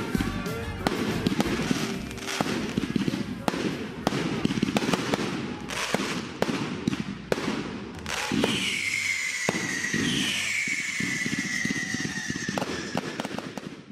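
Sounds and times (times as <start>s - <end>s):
firework cracks: 0.8s - 13.9s
firework whistling: 0.8s - 13.9s.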